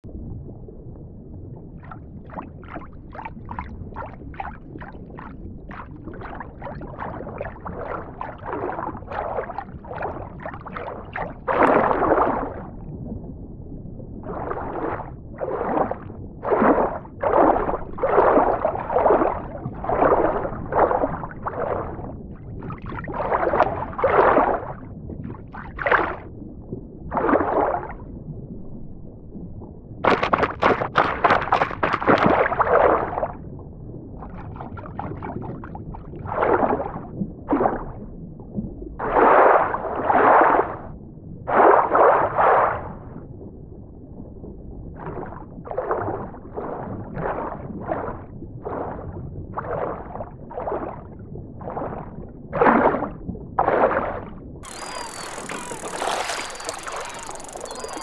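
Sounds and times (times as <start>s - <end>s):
underwater bubbling: 0.0s - 58.0s
underwater low rumble: 0.0s - 58.0s.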